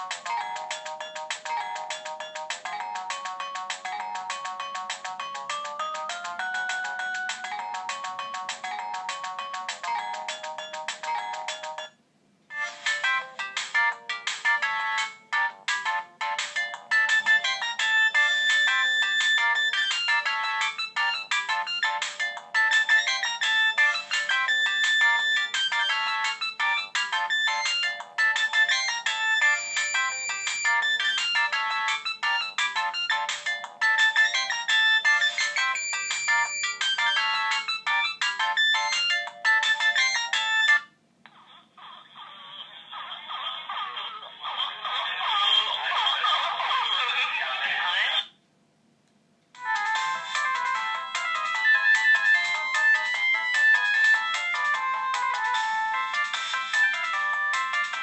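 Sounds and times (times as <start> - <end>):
mobile phone polyphonic ringtone: 0.0 - 40.9, 49.6 - 58.0.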